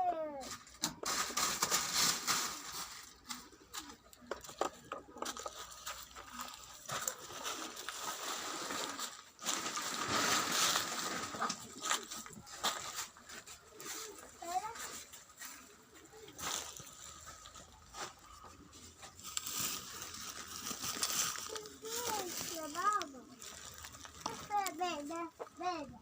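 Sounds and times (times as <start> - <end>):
poultry and pigeons: 0.0 - 26.0
birds rustling: 0.9 - 25.9.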